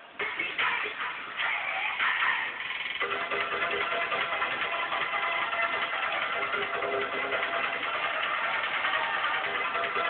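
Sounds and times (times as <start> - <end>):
dull dance track: 0.0 - 10.0.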